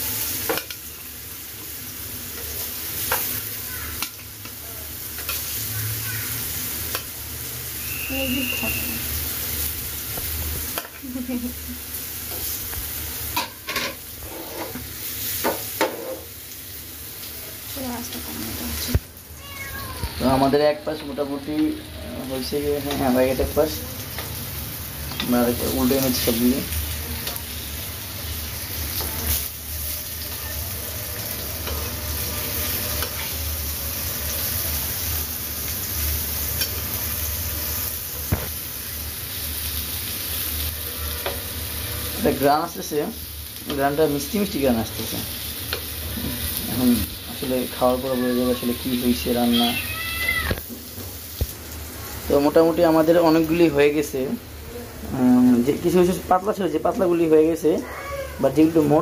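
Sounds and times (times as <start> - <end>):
fritters sizzling in oil: 0.0 - 59.0.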